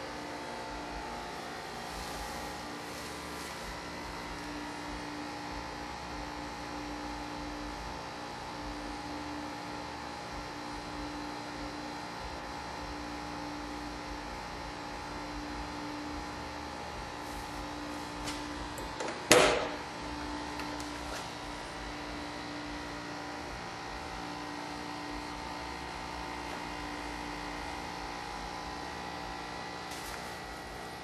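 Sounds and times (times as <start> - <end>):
steady hum with held tones: 0.0 - 31.0.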